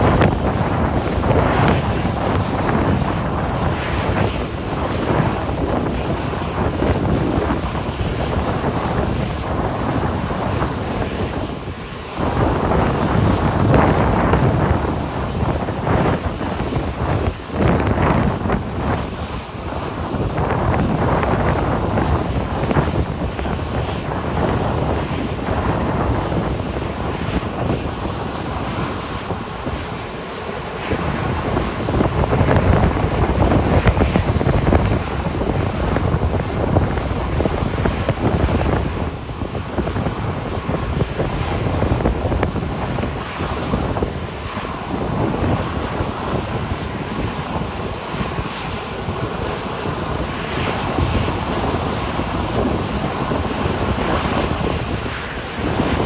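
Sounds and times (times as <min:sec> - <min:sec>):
jet engines roaring at takeoff: 0:00.0 - 0:56.0
wind buffeting microphone: 0:00.0 - 0:56.0.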